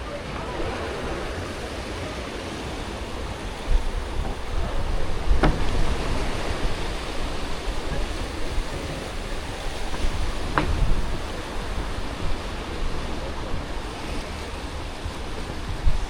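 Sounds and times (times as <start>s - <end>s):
sea waves breaking on beach: 0.0s - 16.0s
wind rumbling on microphone: 0.0s - 16.0s.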